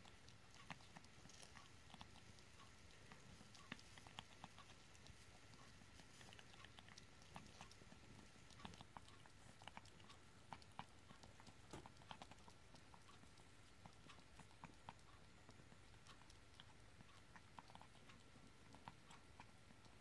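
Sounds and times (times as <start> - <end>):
kitten licking and smacking: 0.0 - 20.0.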